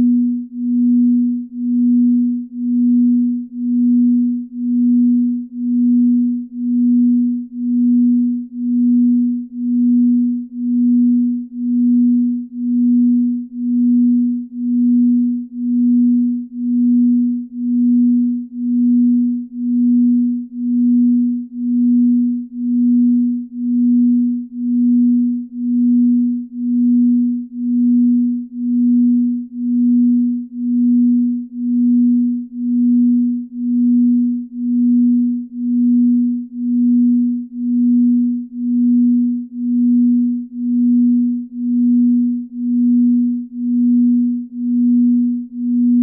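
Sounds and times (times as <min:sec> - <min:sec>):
low pulsing binaural tone: 0:00.0 - 0:46.0.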